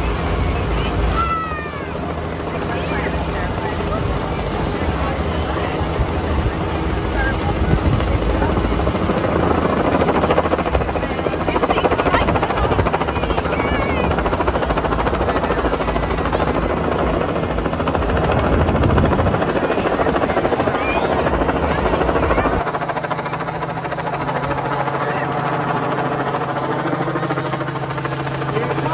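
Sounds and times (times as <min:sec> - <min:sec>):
faint crowd voices: 0:00.0 - 0:28.9
helicopter rotor and engine rumble: 0:00.0 - 0:28.9.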